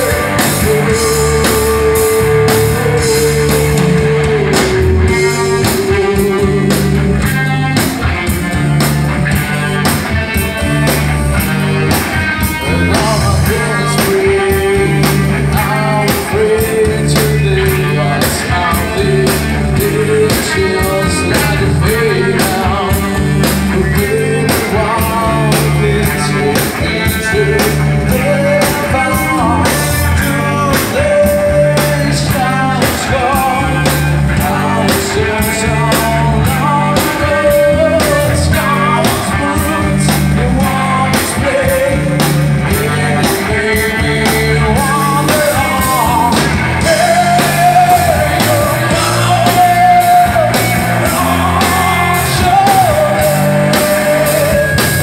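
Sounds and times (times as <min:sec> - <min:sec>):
bass guitar: 0:00.0 - 0:55.0
drum kit beat: 0:00.0 - 0:55.0
electric guitar: 0:00.0 - 0:55.0
person singing: 0:00.0 - 0:55.0.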